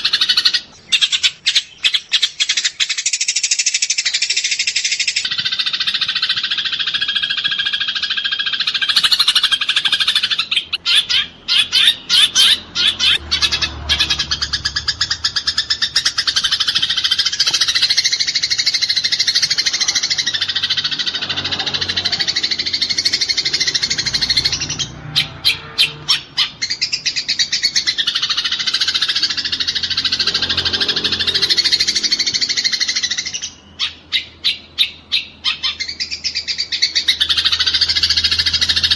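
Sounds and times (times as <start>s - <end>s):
sparrows chattering harsh chirps: 0.0s - 38.9s.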